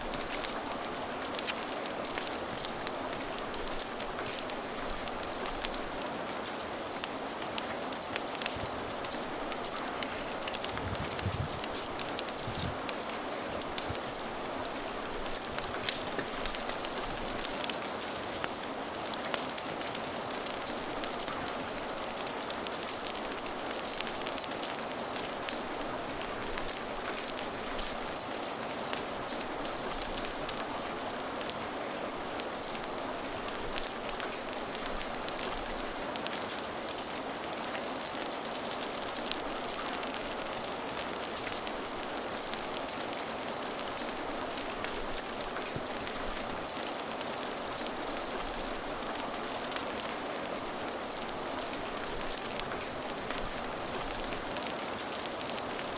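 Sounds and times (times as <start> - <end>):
steady rain: 0.0 - 55.9
wood fire crackling and popping: 0.0 - 55.9.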